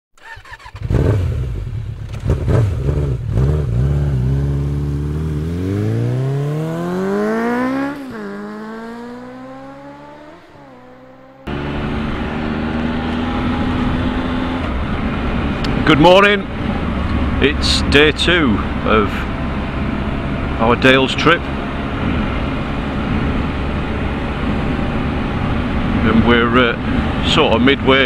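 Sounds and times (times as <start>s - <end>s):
engine revving and pulling away: 0.2s - 28.0s
motorcycle engine running steadily: 0.8s - 28.0s.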